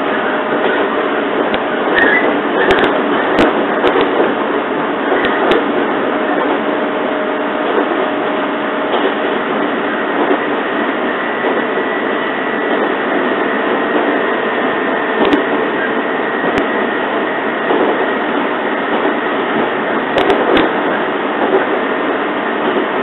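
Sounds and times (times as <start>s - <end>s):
train rolling rumble: 0.0s - 23.0s
rail-joint clicks: 0.1s - 21.9s.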